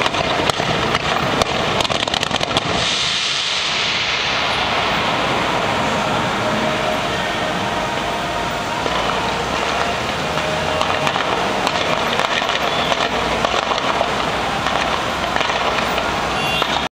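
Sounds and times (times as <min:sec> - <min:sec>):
firecrackers crackling: 0:00.0 - 0:16.9.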